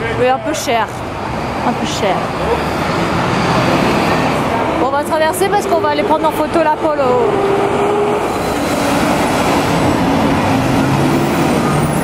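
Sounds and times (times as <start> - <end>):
road noise: 0.0 - 12.0
truck engines driving past: 0.0 - 12.0.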